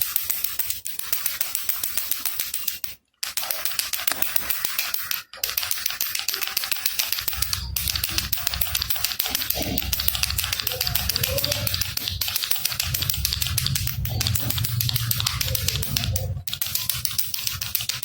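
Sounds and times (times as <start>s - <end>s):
baby rattle shaken rapidly: 0.0s - 18.0s.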